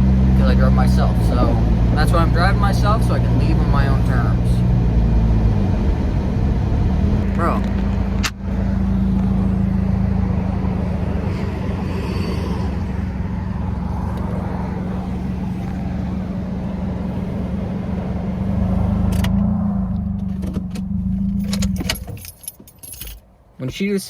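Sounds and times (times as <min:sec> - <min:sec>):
car engine hum: 0:00.0 - 0:23.8
road and tyre noise: 0:00.0 - 0:24.0.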